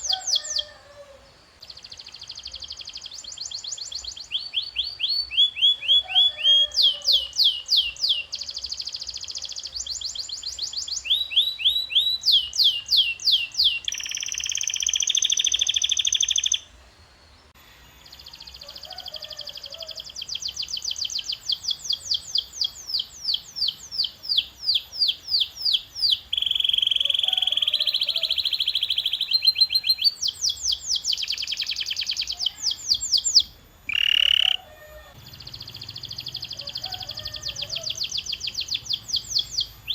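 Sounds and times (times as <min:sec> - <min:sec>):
canary singing: 0:00.0 - 0:16.7, 0:18.0 - 0:39.9.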